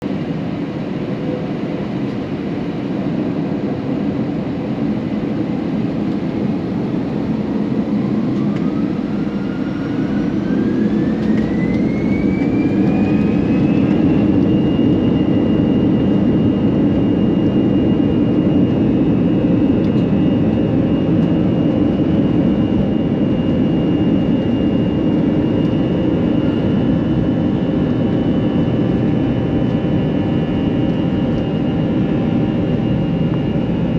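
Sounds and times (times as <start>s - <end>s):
jet engine roar: 0.0s - 33.9s
jet engine whine rising: 0.1s - 33.9s.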